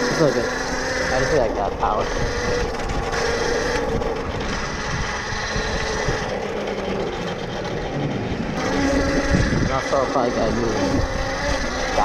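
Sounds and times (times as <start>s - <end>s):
electric motor whining: 0.0s - 12.0s
wind buffeting microphone: 0.0s - 12.0s.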